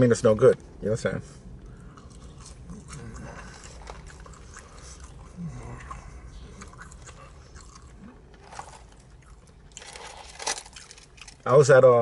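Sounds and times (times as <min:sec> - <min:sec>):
person chewing fried food: 0:01.6 - 0:11.4.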